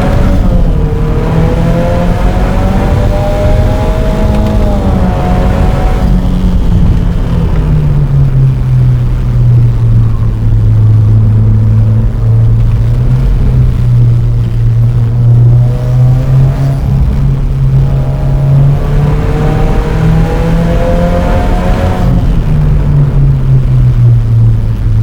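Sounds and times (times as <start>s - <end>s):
car engine drone from inside: 0.0s - 25.0s.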